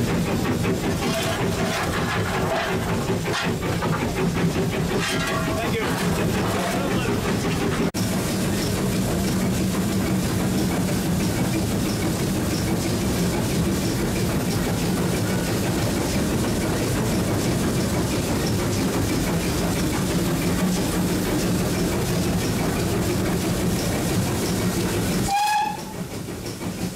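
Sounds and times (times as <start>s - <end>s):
steam locomotive rumble and hiss: 0.0s - 26.9s.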